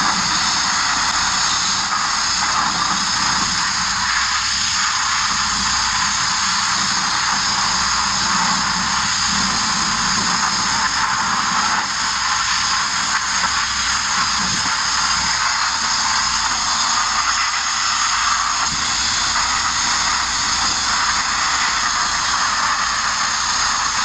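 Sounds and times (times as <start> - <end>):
abrasive blaster nozzle hissing: 0.0 - 24.0.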